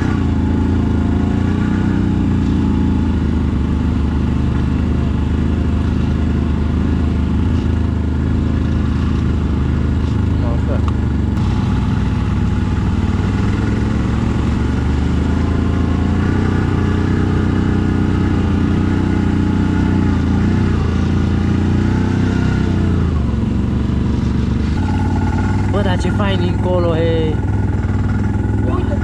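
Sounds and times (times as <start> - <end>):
atv engine running: 0.0 - 29.0.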